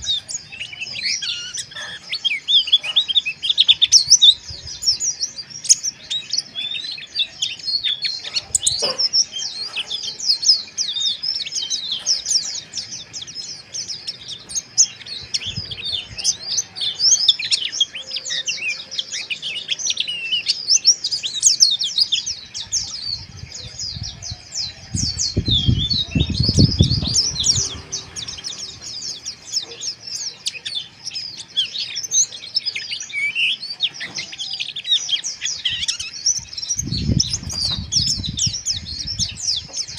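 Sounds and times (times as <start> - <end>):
bird twittering high chirps: 0.0 - 39.9.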